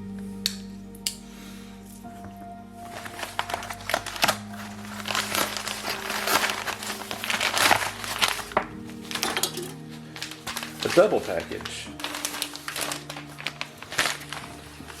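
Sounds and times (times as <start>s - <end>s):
packaging crinkling: 2.9s - 15.0s.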